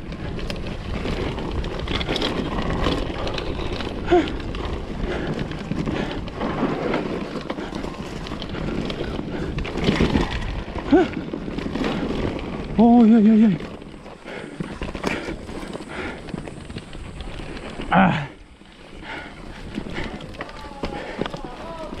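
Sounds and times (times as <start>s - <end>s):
bike clattering and rattling: 0.0s - 22.0s
wind buffeting microphone: 0.0s - 22.0s.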